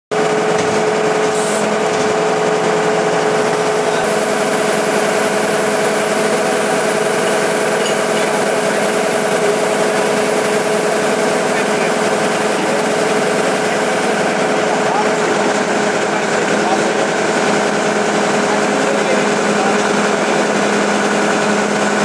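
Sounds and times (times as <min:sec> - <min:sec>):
drilling rig engine: 0:00.1 - 0:22.0
constant high whine: 0:00.2 - 0:22.0.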